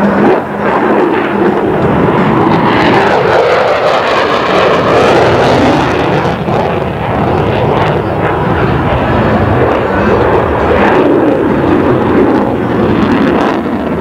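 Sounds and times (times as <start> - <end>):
jet flying overhead: 0.0 - 14.0.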